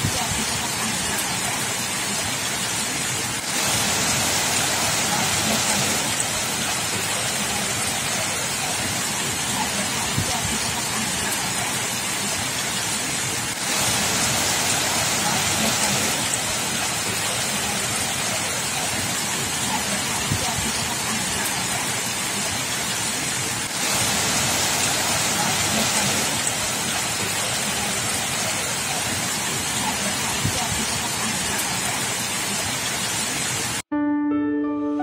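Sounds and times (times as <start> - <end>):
floodwater running over pavement: 0.0 - 33.8
torrential rain: 0.0 - 33.9.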